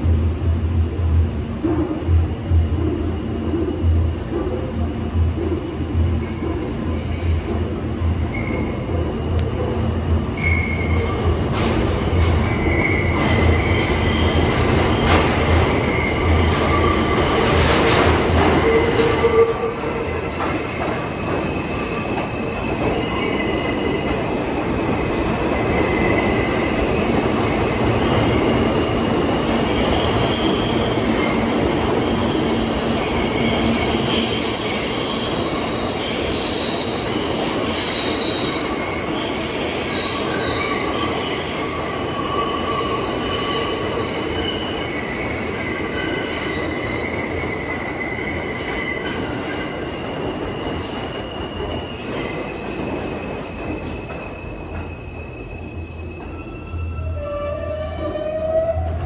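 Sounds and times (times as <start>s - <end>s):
subway train rumble: 0.0s - 59.0s.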